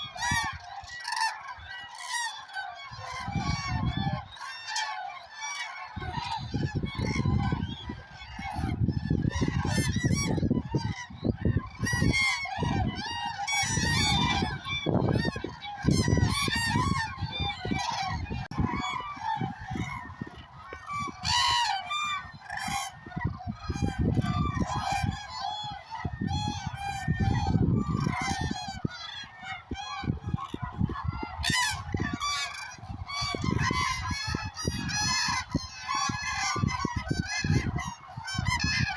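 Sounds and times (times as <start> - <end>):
cranes trumpeting calls: 0.0 - 38.9.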